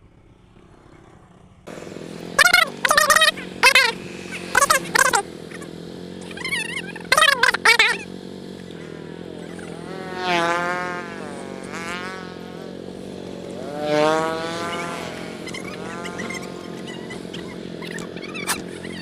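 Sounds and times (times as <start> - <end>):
engine running: 0.0 - 19.0
wavering whine: 0.0 - 19.0.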